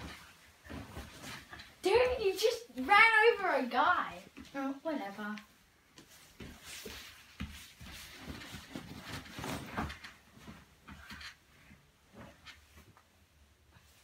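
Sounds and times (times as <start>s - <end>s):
clothes and bedding rustling: 0.0s - 14.0s.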